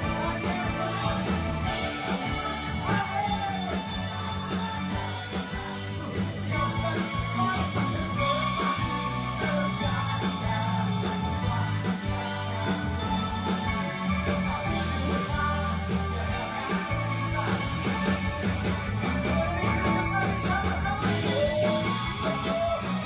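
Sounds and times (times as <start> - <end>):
rock band playing: 0.0 - 23.0.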